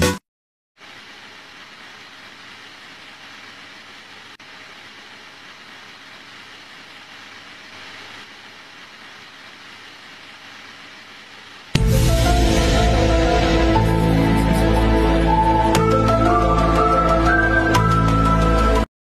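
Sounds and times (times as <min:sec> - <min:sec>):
steady background hiss: 0:00.8 - 0:17.7.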